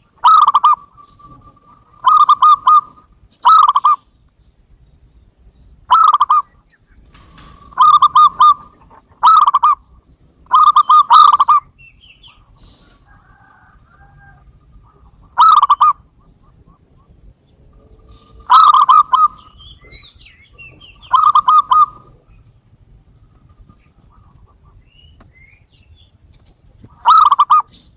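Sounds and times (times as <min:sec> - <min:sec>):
dove staccato coos: 0:00.0 - 0:04.4, 0:05.8 - 0:25.4, 0:26.4 - 0:27.9
small birds chirping: 0:00.0 - 0:27.9.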